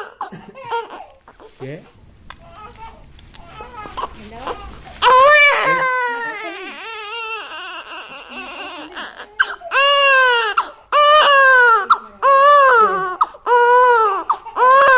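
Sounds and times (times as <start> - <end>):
newborn baby crying: 0.0 - 1.6, 2.4 - 14.9.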